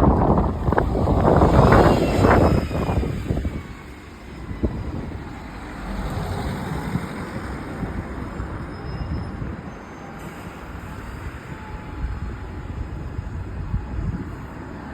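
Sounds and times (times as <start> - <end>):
wind buffeting microphone: 0.0 - 9.8, 10.6 - 14.9.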